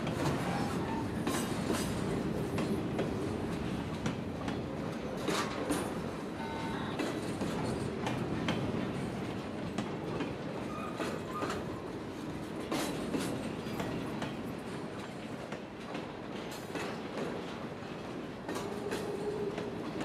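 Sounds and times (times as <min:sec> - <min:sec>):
train wheels clacking over joints: 0:00.0 - 0:20.0.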